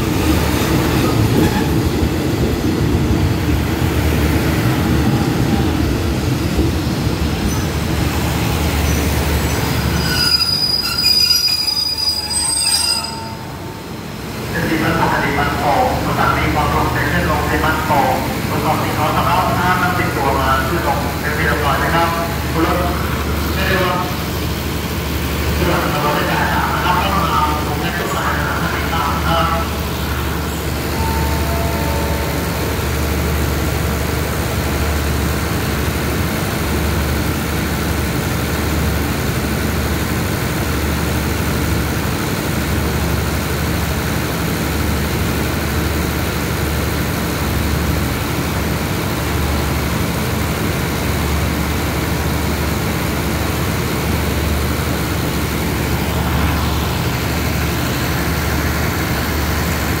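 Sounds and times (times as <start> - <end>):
train diesel engine idling: 0.0 - 60.0.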